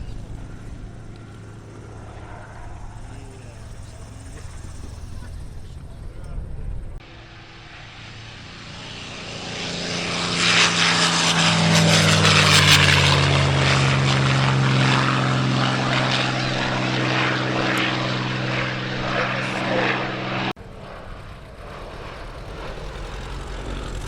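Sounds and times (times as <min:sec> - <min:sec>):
propeller aircraft flying past: 0:00.0 - 0:24.0.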